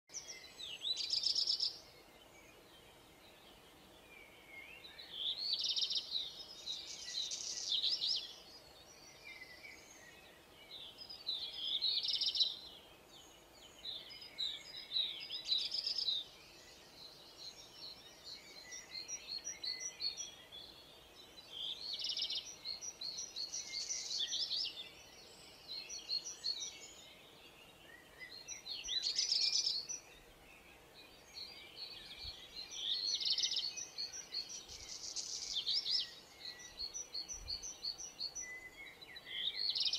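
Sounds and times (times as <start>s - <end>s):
faint background hiss: 0.1s - 39.9s.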